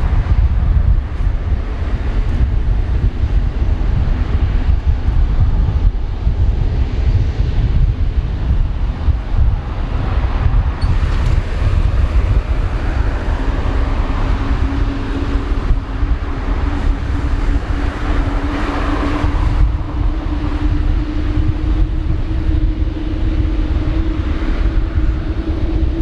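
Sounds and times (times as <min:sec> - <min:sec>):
jet engine rumble: 0:00.0 - 0:26.0
jet engine whine: 0:00.0 - 0:26.0.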